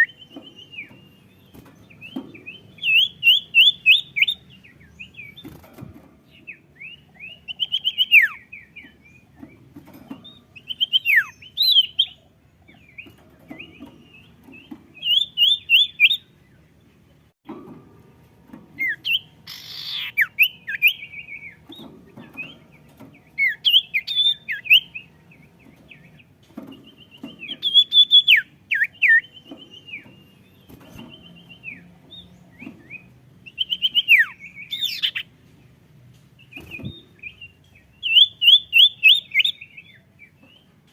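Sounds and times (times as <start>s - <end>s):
songbird chirping and whistling: 0.0s - 5.6s, 6.4s - 9.6s, 10.2s - 16.8s, 18.8s - 35.3s, 36.4s - 40.8s.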